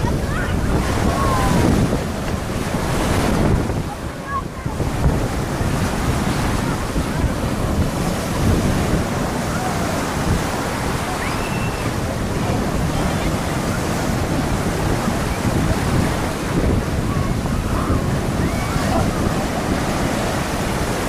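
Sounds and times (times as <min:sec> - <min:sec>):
sea waves washing ashore: 0:00.0 - 0:21.0
wind buffeting microphone: 0:00.0 - 0:21.0.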